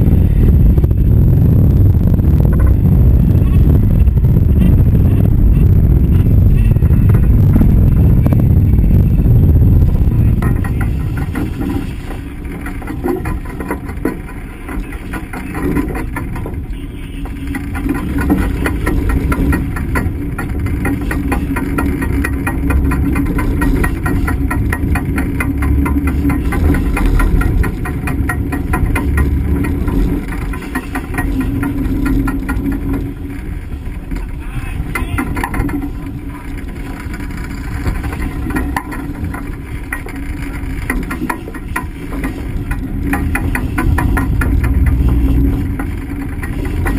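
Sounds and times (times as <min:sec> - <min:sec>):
boat engine running: 0:00.0 - 0:46.9
rapid even ticking: 0:00.0 - 0:46.9
steady hum: 0:00.0 - 0:46.9
wind noise: 0:00.0 - 0:46.9.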